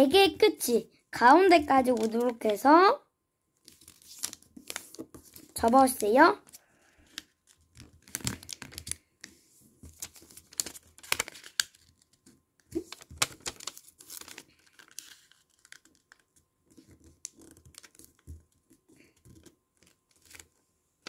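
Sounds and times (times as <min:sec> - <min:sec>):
paper crinkling and rustling: 0:01.8 - 0:02.7, 0:03.6 - 0:20.6.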